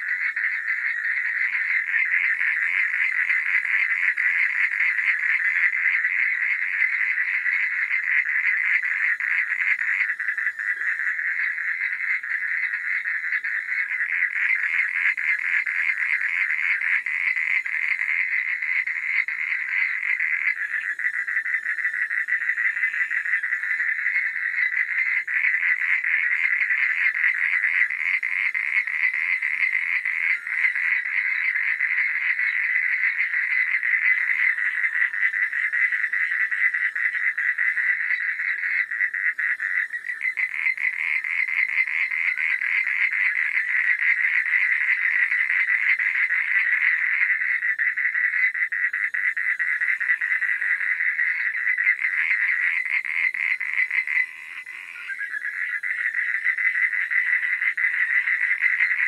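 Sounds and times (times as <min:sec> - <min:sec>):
frogs trilling: 0:00.0 - 0:59.0.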